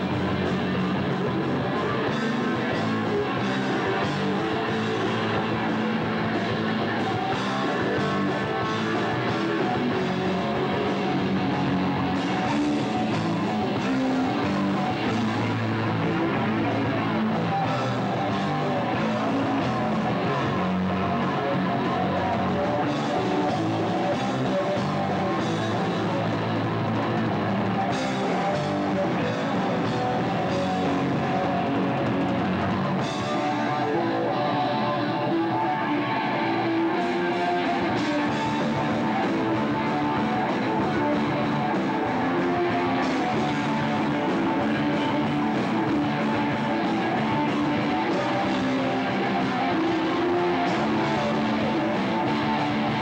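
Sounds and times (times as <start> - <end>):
rock band playing: 0.0 - 53.0.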